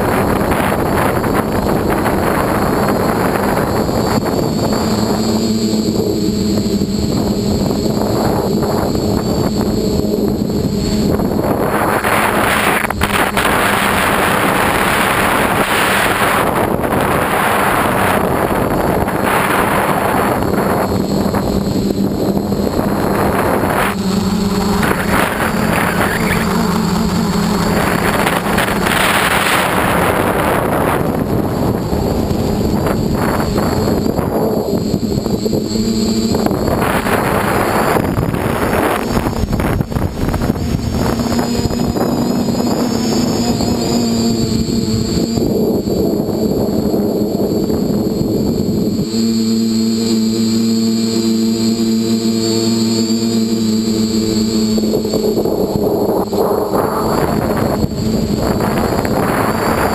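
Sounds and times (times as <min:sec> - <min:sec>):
drone propellers humming: 0:00.0 - 0:59.9
wind rushing over microphone: 0:00.0 - 0:59.9.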